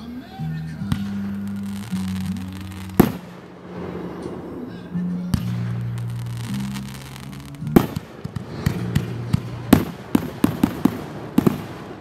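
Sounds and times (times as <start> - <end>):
fireworks bangs: 0.8 - 12.0.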